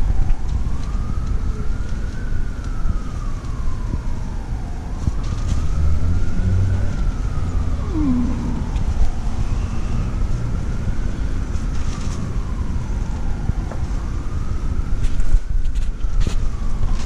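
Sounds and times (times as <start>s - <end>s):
siren wailing: 0.0s - 15.2s, 16.2s - 17.0s
low rumble of street traffic: 0.0s - 17.0s.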